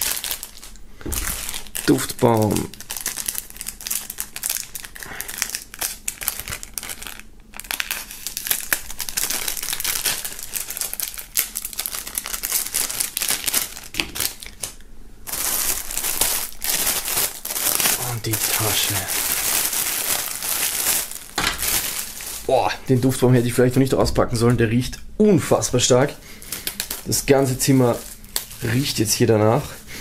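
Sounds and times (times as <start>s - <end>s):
plastic film crinkling: 0.0s - 24.6s, 25.6s - 30.0s.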